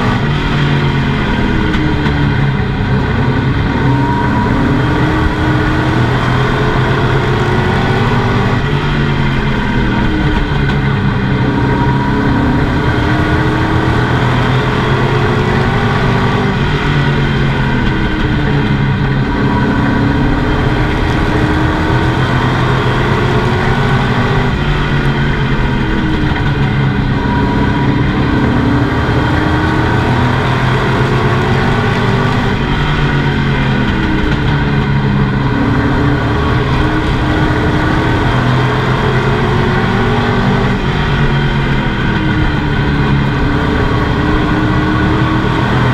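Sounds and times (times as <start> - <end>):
race truck engine revving: 0.0 - 45.9.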